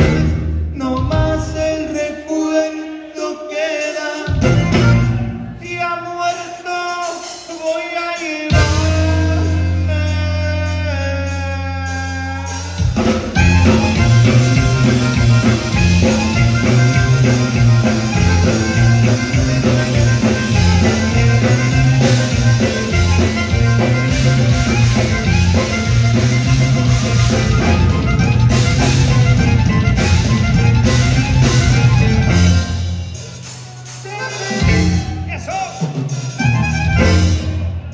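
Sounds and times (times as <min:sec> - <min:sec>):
instrumental band with accordion: 0:00.0 - 0:05.6, 0:06.3 - 0:37.9.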